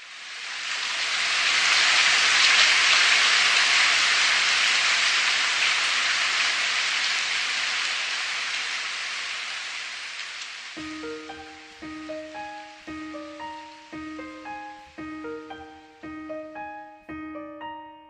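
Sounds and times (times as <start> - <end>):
rainfall hiss: 0.0 - 17.7.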